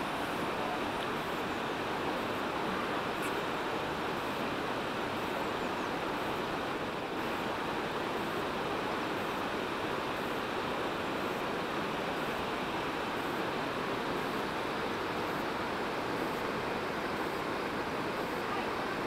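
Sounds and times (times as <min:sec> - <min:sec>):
river rushing through rocky gorge: 0:00.0 - 0:19.0.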